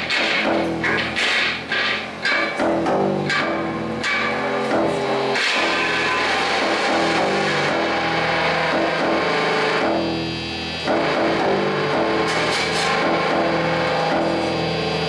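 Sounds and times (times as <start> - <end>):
distorted guitar-like drones: 0.0 - 15.0.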